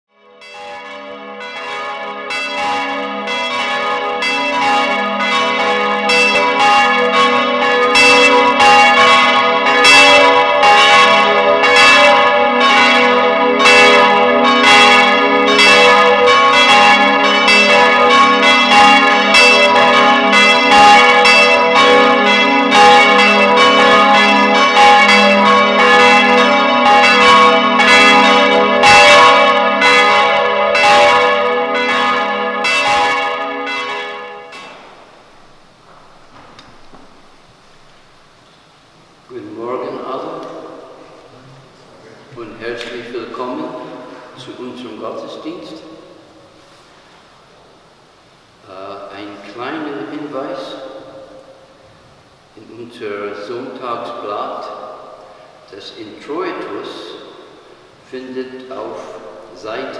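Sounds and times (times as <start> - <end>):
church bells ringing: 0.1 - 38.3, 39.3 - 41.3, 42.4 - 46.5, 49.1 - 51.8, 53.0 - 59.9.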